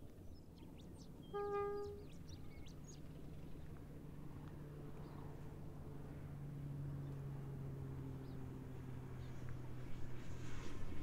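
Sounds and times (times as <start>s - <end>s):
distant locomotive engine drone: 0.1s - 11.0s.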